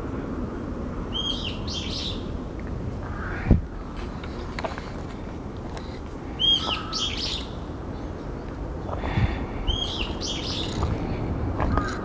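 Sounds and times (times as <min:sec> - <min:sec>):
songbird singing: 0:01.1 - 0:12.0.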